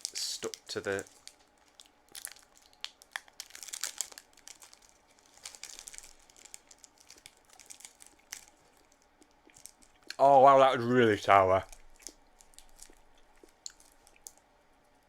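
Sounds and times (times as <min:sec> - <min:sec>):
sweet wrapper crinkling and tearing: 0:00.0 - 0:10.2, 0:11.5 - 0:14.4.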